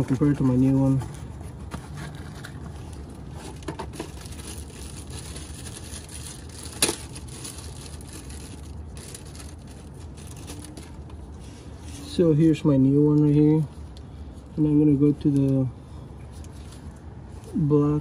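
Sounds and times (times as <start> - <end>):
rustling and crinkling handling: 0.0 - 17.7.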